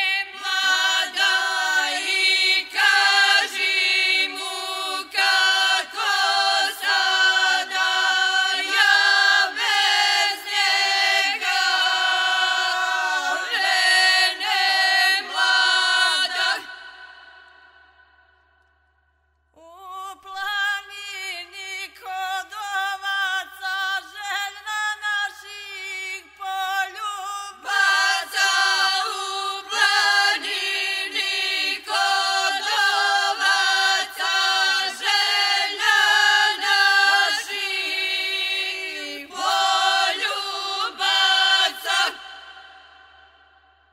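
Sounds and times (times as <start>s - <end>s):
group singing unaccompanied: 0.0s - 18.3s, 26.6s - 43.7s.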